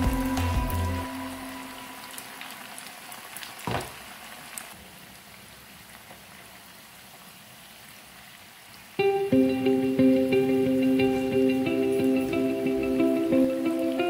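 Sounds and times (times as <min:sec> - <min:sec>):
bubbling sizzle of deep-frying: 0:00.0 - 0:14.0.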